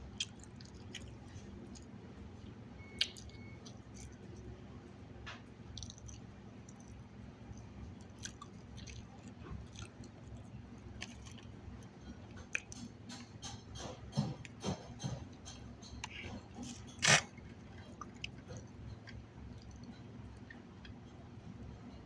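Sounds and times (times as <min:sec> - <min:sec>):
person chewing food: 0:00.0 - 0:04.5, 0:05.7 - 0:22.0.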